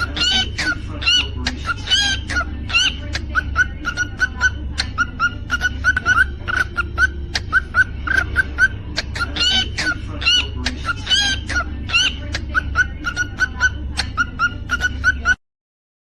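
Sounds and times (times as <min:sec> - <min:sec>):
cockatiel chirping: 0:00.0 - 0:15.4
cockatiel whistling: 0:00.0 - 0:15.4
steady low hum: 0:00.0 - 0:15.4.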